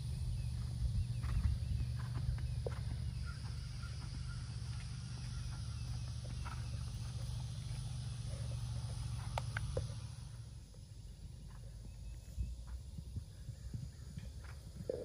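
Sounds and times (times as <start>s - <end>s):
horse hoofbeats on grass: 0.0s - 15.0s
insect hiss: 0.0s - 15.0s
steady low rumble: 0.0s - 15.0s.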